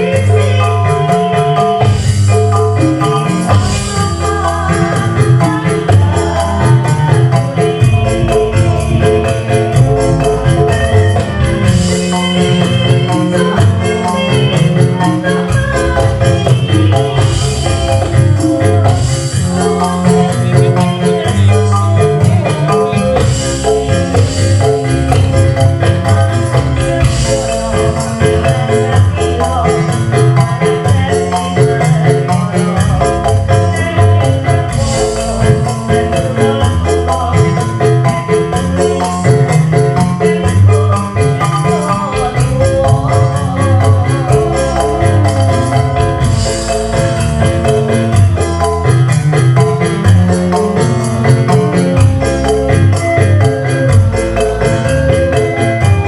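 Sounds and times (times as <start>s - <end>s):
steady drum beat: 0.0s - 56.0s.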